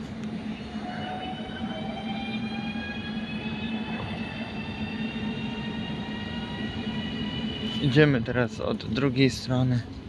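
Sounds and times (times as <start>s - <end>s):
electric train whine: 0.0s - 10.0s.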